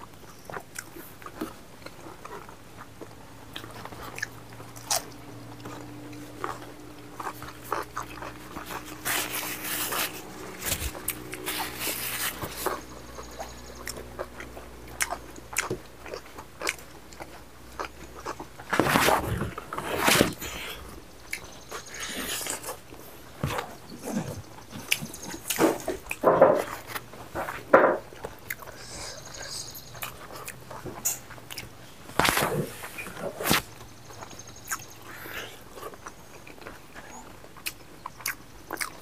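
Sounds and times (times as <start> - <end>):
chewing with wet mouth clicks: 0.1 - 11.8, 12.7 - 18.7, 21.2 - 23.8, 24.5 - 27.0, 28.1 - 31.8, 34.1 - 39.0.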